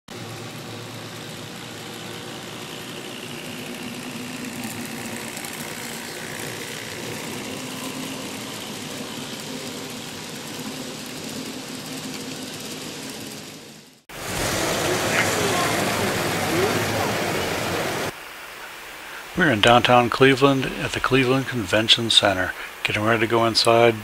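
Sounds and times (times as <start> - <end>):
train engine drone: 0.1 - 24.0
faint falling whine: 0.2 - 24.0.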